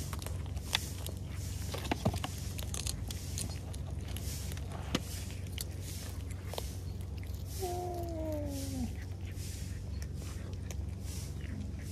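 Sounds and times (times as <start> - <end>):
cats chewing crunchy food: 0.0 - 11.9.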